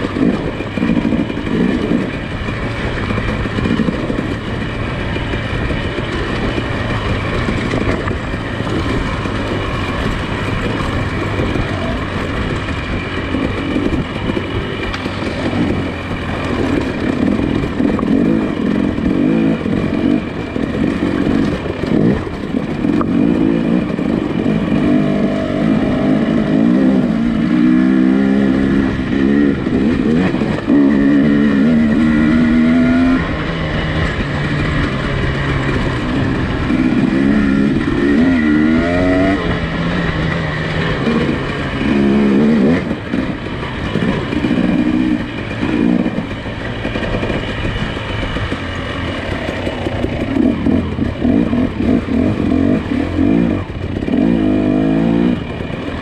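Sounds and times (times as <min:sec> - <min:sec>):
suv engine pulling off-road: 0:00.0 - 0:56.0.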